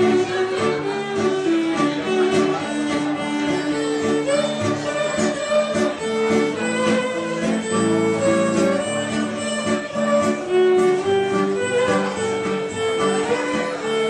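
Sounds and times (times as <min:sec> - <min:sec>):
acoustic guitar: 0:00.0 - 0:14.0
fiddle melody: 0:00.0 - 0:14.0.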